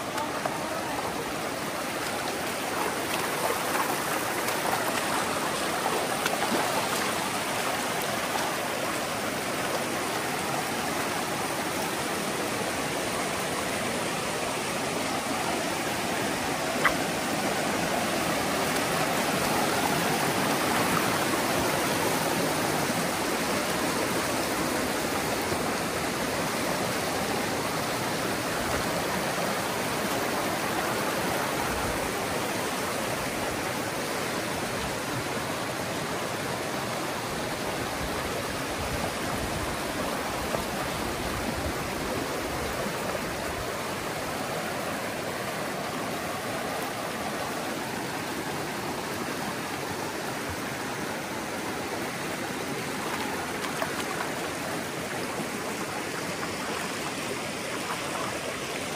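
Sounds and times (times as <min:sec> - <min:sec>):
river water rushing: 0:00.0 - 0:58.9.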